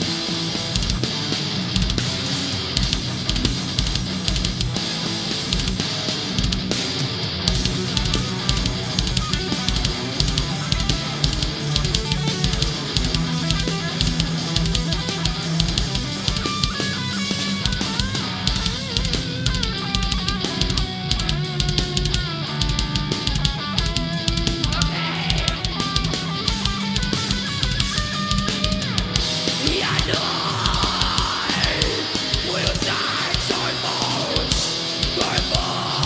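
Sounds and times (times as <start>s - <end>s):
bending melodic guitar line: 0.0s - 36.0s
distorted electric guitars: 0.0s - 36.0s
drum kit with rapid bass drum: 0.0s - 36.0s.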